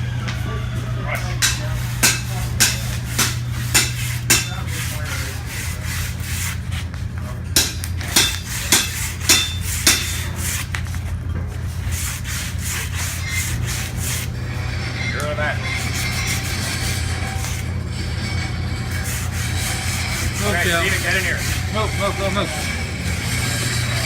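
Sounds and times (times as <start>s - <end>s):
rhythmic scraping strokes: 0.0s - 24.0s
steady low hum: 0.0s - 24.0s.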